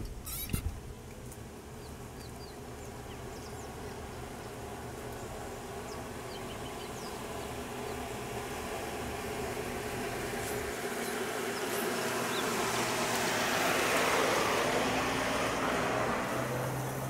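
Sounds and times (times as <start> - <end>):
truck engine hum: 0.0 - 17.0.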